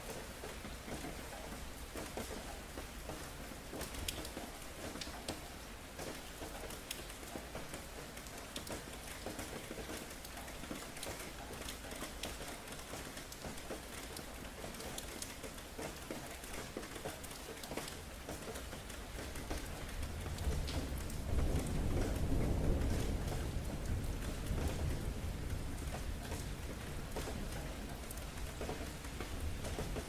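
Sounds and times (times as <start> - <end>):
rain pattering on hard surfaces: 0.0 - 30.0.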